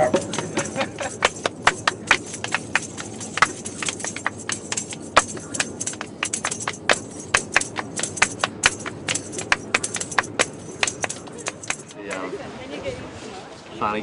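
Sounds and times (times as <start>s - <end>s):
wooden percussion clicks: 0.0s - 12.2s.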